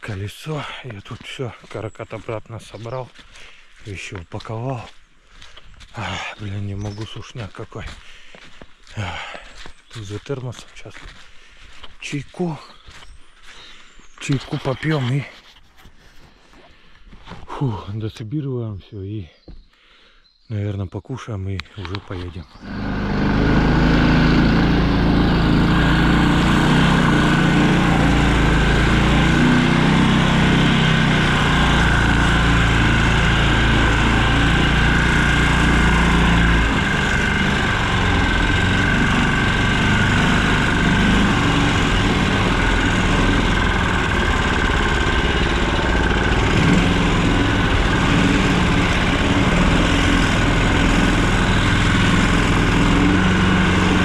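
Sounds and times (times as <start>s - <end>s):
small engine running: 0.6s - 15.2s, 21.9s - 54.0s.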